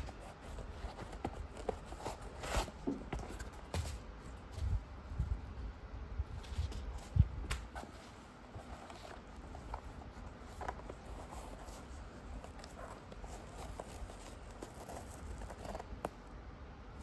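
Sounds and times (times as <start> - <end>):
shoe fabric rustling: 0.0 - 5.5, 6.3 - 16.4.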